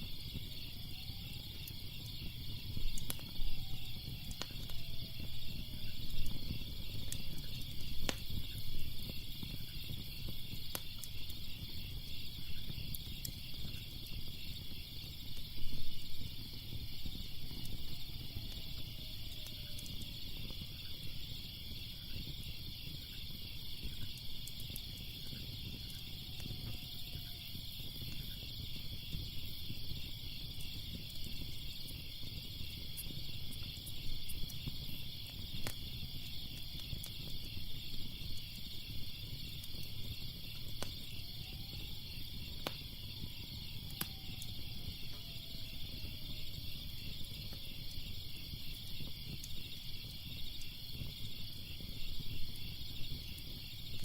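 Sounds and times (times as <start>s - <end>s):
crickets chirping: 0.0s - 54.0s
fire crackling: 0.0s - 54.0s
fire popping: 0.0s - 54.0s.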